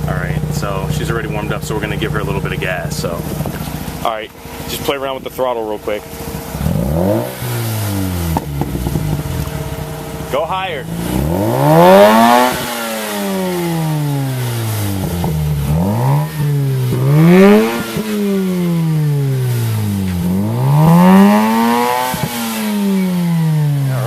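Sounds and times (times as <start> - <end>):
rotary engine revving: 0.0 - 24.0.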